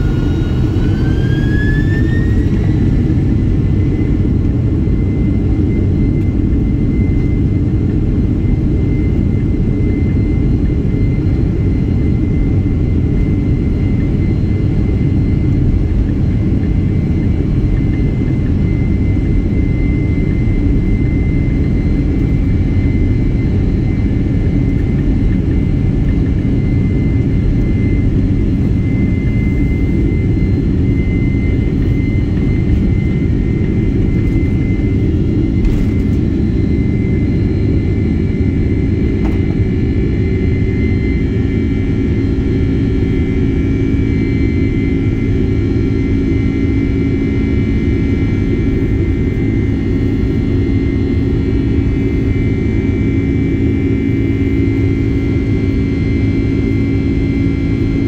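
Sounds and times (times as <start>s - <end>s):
jet engines rumbling with high whine: 0.0s - 58.0s.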